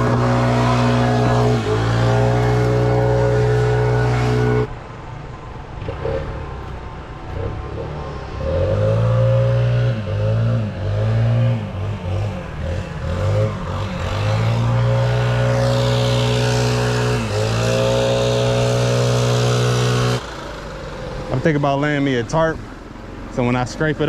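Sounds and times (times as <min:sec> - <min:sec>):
engine revving: 0:00.0 - 0:04.8, 0:05.7 - 0:24.0.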